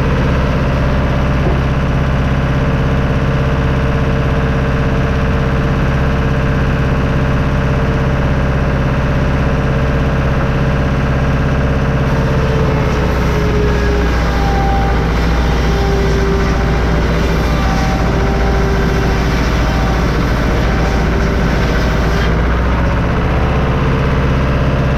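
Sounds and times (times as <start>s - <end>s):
sawmill engine with whine: 0.0s - 24.9s.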